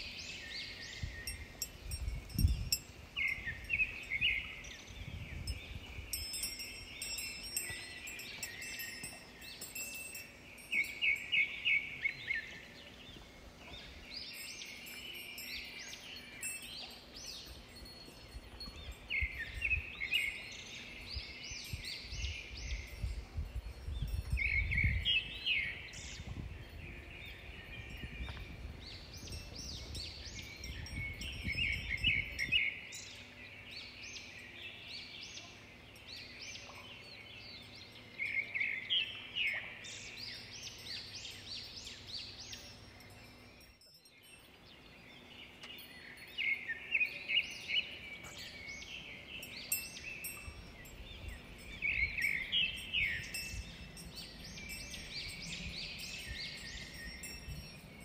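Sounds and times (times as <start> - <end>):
birds chirping: 0.0 - 58.0
outdoor background noise: 0.0 - 58.0.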